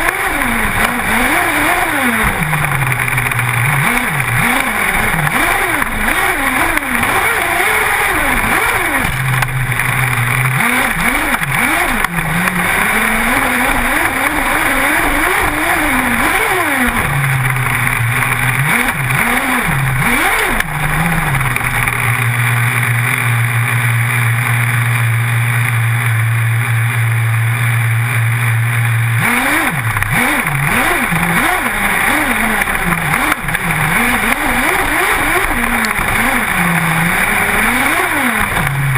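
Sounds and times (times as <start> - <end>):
constant rushing noise: 0.0 - 38.9
small engine revving: 0.0 - 38.9.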